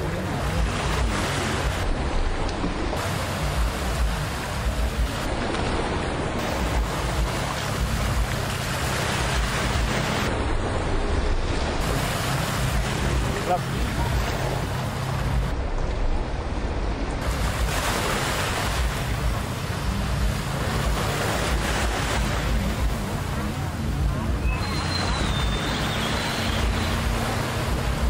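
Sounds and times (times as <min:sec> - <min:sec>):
jet ski engine hum: 0:00.0 - 0:28.0
spray and surf: 0:00.0 - 0:28.0.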